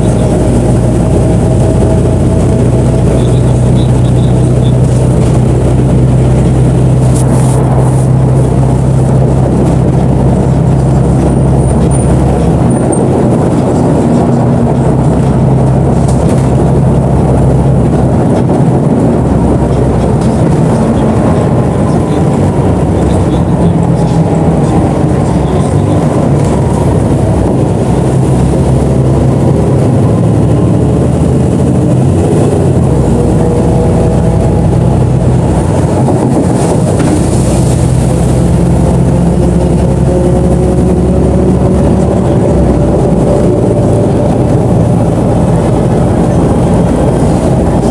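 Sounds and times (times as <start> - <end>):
bus engine droning: 0.0 - 47.9
rising whine: 0.0 - 47.9.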